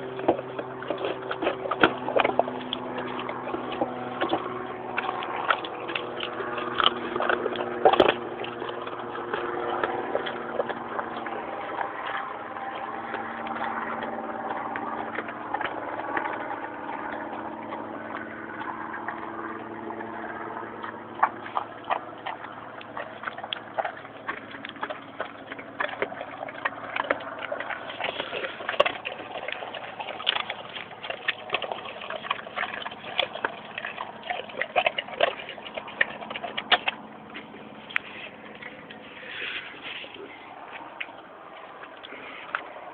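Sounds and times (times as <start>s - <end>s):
dogs crunching bones: 0.0s - 42.9s
low hum: 0.0s - 42.9s.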